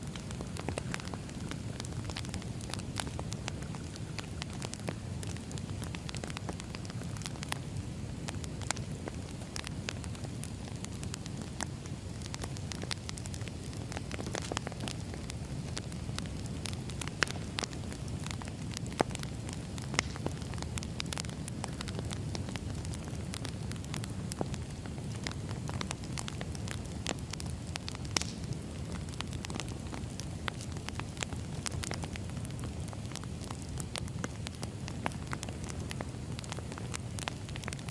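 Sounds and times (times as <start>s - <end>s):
firewood fire crackling: 0.0s - 37.9s
sharp pops from fire: 0.0s - 37.9s.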